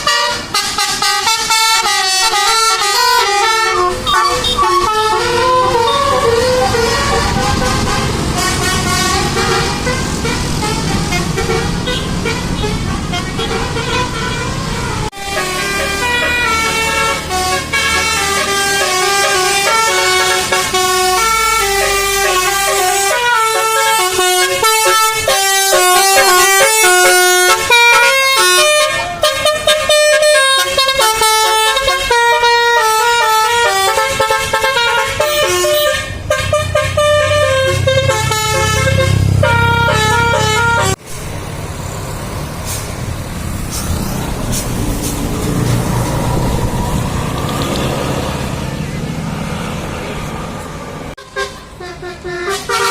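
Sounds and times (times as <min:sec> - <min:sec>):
air horns playing melodic tunes: 0:00.0 - 0:41.0, 0:51.1 - 0:52.9.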